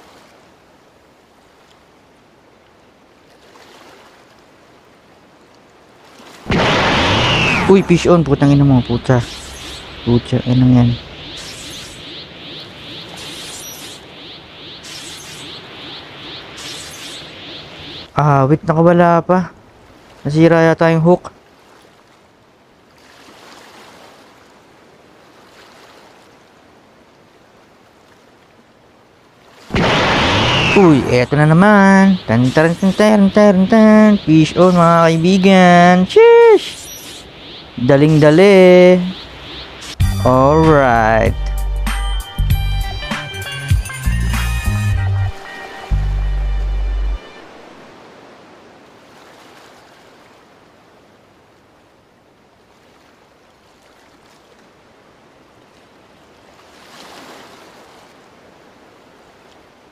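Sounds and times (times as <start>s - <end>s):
faint hiss of small waves: 0.0s - 40.0s, 47.2s - 59.9s.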